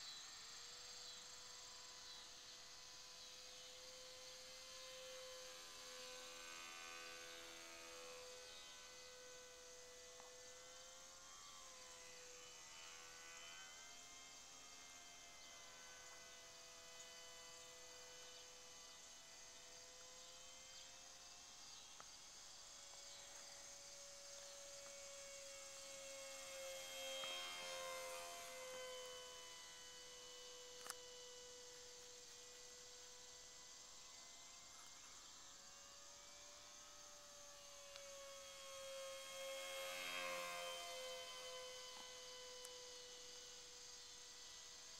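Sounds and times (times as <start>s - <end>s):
model plane motor whining: 0.0s - 44.9s.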